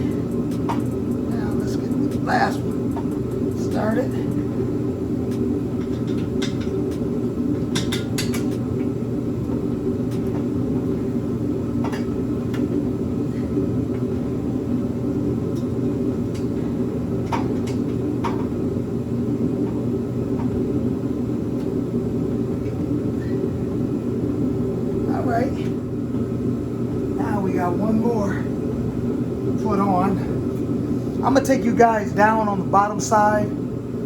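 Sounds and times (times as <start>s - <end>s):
loud steady low rumble: 0.0s - 34.0s.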